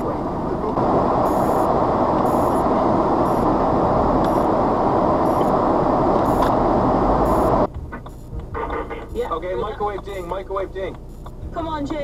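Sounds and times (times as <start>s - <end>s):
rushing noise inside car: 0.0s - 12.0s.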